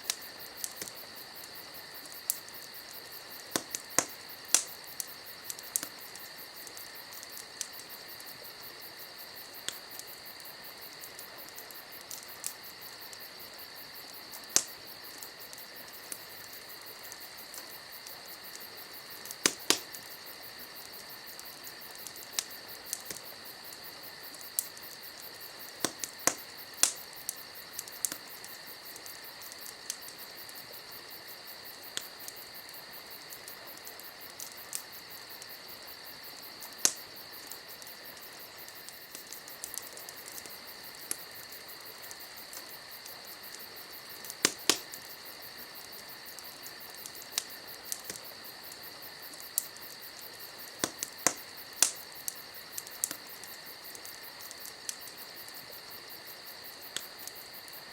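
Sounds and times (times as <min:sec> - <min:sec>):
campfire crackling and popping: 0:00.0 - 0:57.9
crickets chirring: 0:00.0 - 0:57.9.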